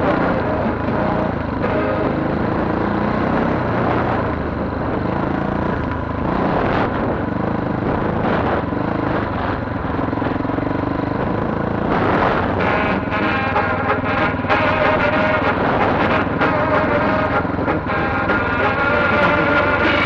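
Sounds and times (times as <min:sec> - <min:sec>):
dirt bike engine revving: 0:00.0 - 0:20.0
wind and road noise: 0:00.0 - 0:20.0.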